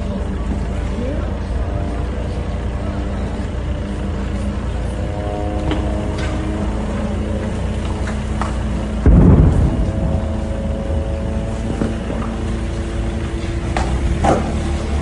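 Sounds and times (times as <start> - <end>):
loud low rumble: 0.0 - 15.0
vehicle engine running: 0.0 - 15.0.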